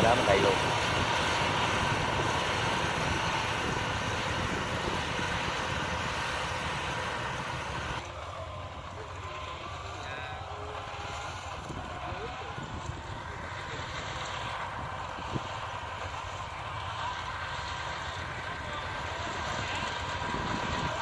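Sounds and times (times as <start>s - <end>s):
wind hiss: 0.0s - 8.0s, 10.8s - 21.0s
combine harvester engine running: 0.0s - 21.0s.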